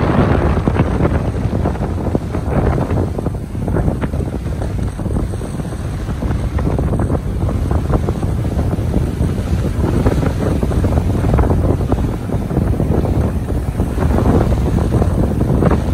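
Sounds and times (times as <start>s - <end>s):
small waves washing on beach: 0.0s - 15.9s
wind buffeting microphone: 0.0s - 15.9s.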